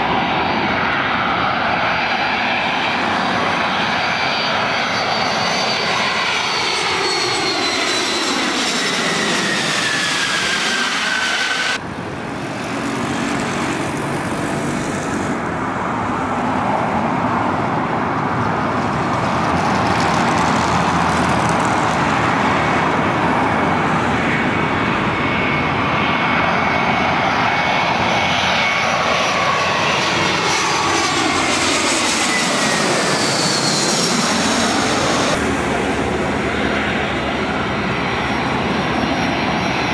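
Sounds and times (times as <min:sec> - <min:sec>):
airliner engines rumbling overhead: 0:00.0 - 0:39.9
jet turbofan whine passing: 0:00.0 - 0:39.9.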